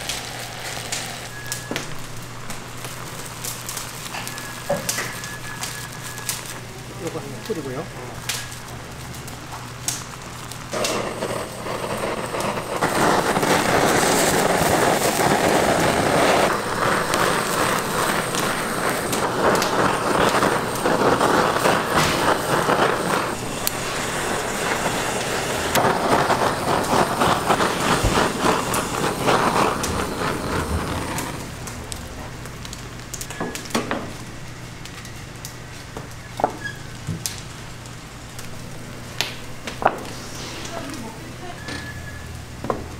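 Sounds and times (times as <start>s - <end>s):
chicken sizzling over wood fire: 0.0s - 42.9s.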